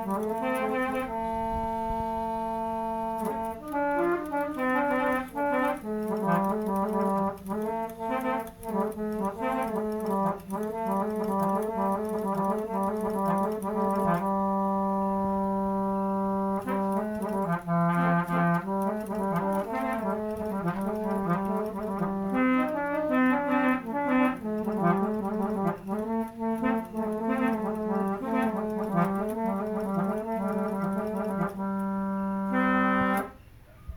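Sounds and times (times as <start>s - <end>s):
musical vehicle horn melody: 0.0s - 33.4s.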